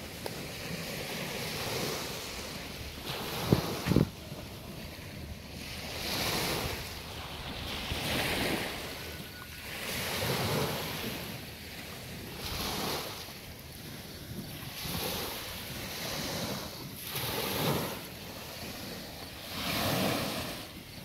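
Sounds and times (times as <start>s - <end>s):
small waves breaking on sand: 0.0s - 21.0s.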